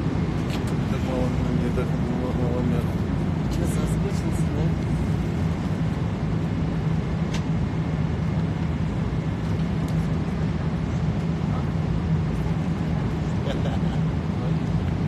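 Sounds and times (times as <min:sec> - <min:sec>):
air circulation noise: 0:00.0 - 0:15.0
airliner cabin engine drone: 0:00.0 - 0:15.0.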